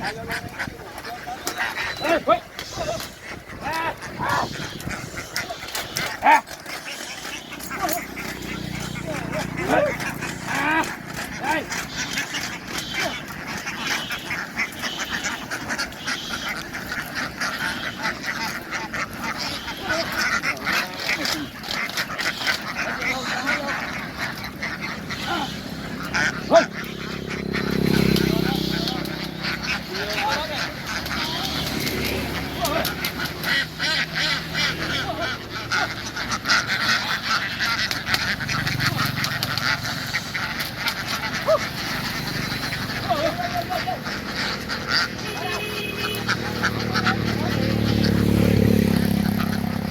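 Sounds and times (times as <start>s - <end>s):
flock of ducks quacking: 0.0s - 49.9s.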